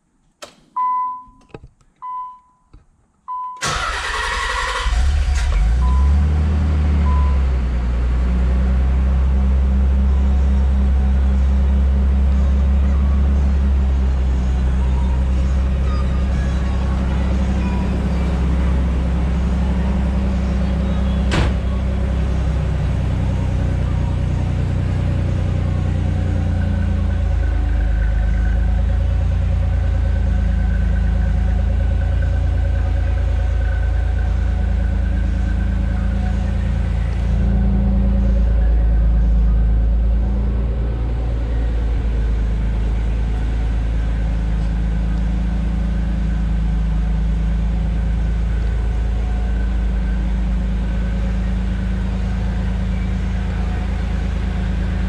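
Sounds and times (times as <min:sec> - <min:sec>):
car engine idling: 0:03.6 - 0:55.0.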